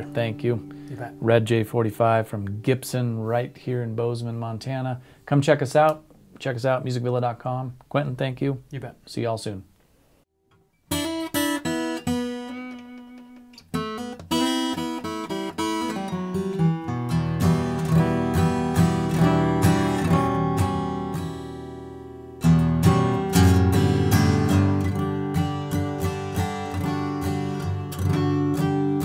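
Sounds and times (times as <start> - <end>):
acoustic guitar playing: 0.0 - 5.2, 10.4 - 29.0.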